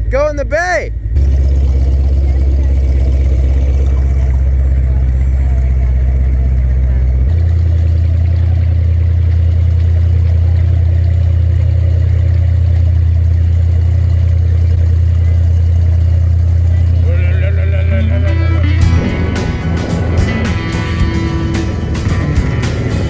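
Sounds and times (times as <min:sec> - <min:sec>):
speedboat engine running: 0:00.0 - 0:23.0.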